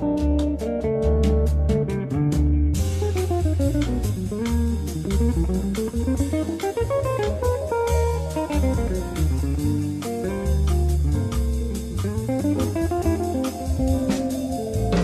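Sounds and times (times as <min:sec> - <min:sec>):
bass line: 0:00.0 - 0:15.0
drums: 0:00.0 - 0:15.0
guitar runs: 0:00.0 - 0:15.0.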